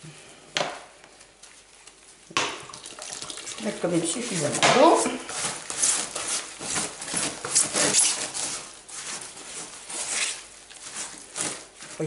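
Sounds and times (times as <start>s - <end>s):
hands kneading wet compost: 0.9s - 12.0s.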